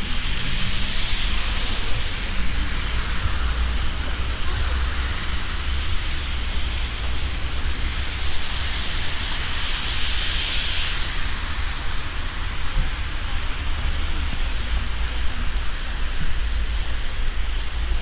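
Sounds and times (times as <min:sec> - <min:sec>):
hiss of falling snow and sleet: 0:00.0 - 0:18.0
wind buffeting microphone: 0:00.0 - 0:18.0.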